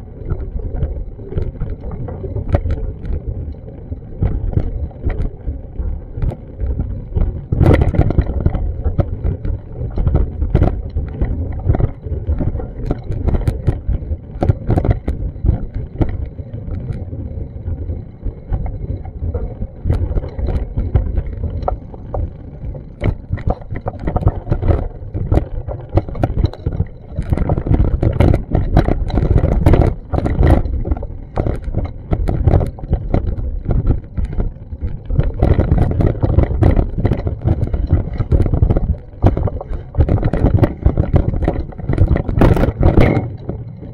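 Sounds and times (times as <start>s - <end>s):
wind buffeting microphone: 6.1s - 17.2s, 18.4s - 43.9s.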